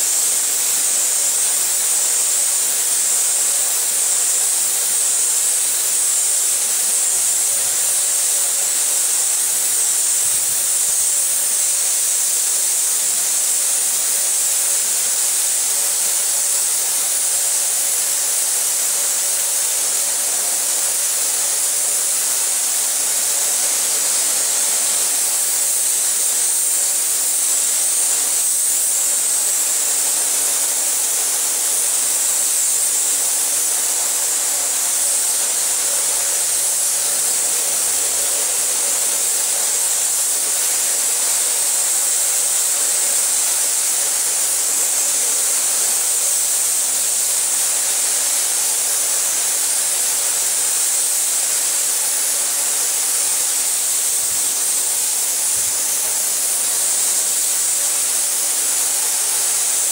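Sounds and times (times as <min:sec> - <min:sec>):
compressed air hissing: 0:00.0 - 0:59.9.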